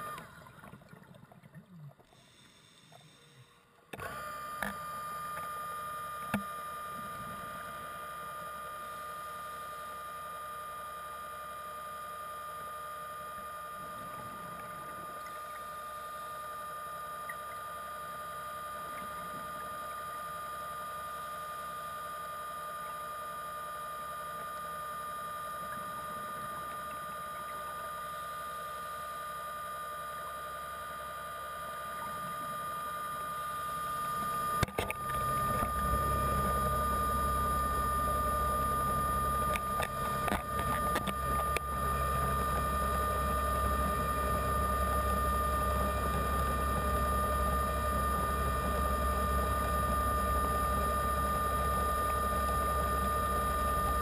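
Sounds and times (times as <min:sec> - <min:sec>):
underwater electric motor whine: 0:00.0 - 0:01.4, 0:02.0 - 0:54.0.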